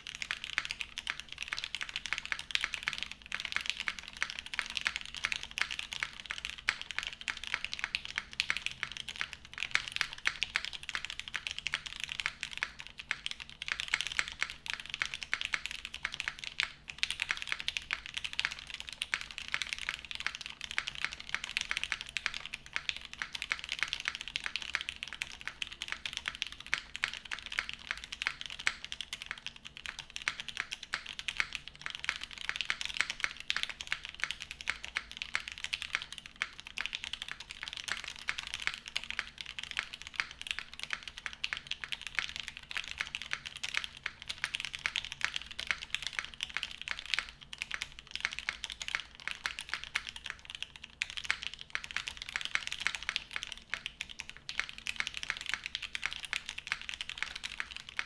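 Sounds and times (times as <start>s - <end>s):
fast typing on mechanical keyboard: 0.0s - 58.0s.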